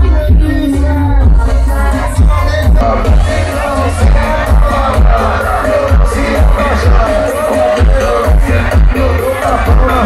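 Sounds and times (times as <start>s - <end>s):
dance music with heavy bass beat: 0.0s - 10.0s
man singing: 0.0s - 10.0s.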